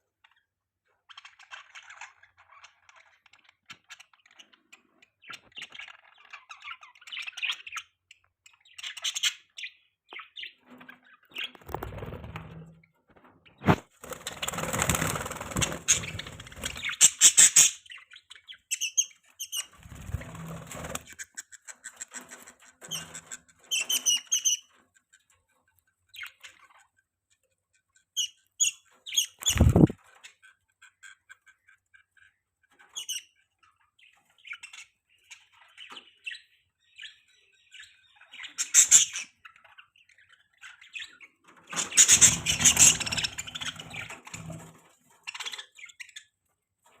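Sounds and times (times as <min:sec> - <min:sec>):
budgerigars chirping and chattering: 0:01.0 - 0:12.6, 0:14.0 - 0:46.4.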